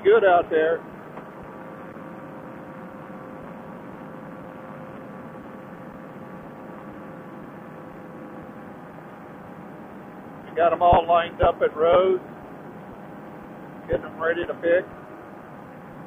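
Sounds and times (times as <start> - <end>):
paramotor engine droning: 0.0 - 16.0.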